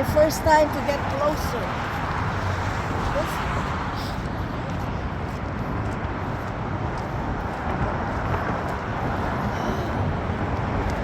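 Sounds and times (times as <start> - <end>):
road traffic passing: 0.0 - 11.0
wind buffeting microphone: 0.0 - 11.0.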